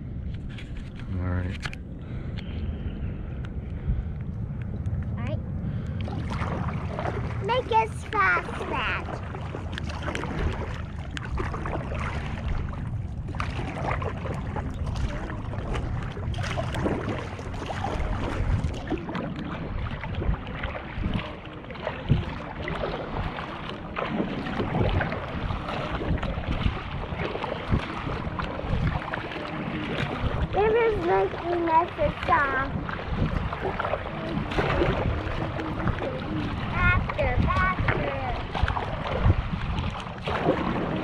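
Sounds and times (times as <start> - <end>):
water rushing along hull: 0.0 - 41.0
wind buffeting microphone: 0.0 - 41.0
paddle dipping and splashing: 5.7 - 41.0.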